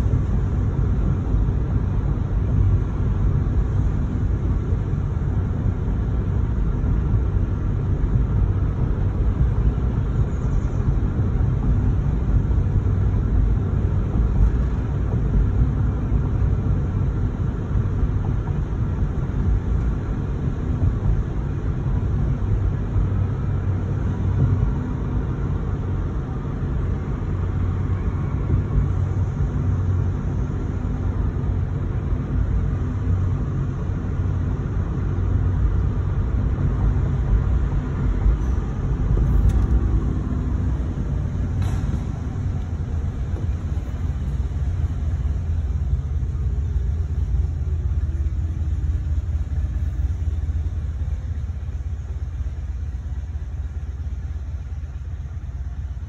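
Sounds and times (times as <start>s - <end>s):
car engine rumble from inside cabin: 0.0s - 56.0s.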